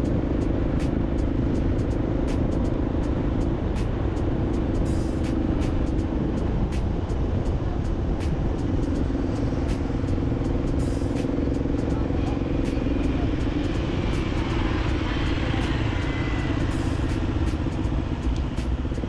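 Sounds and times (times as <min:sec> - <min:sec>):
road noise: 0:00.0 - 0:19.0
vehicle engine drone: 0:00.0 - 0:19.0.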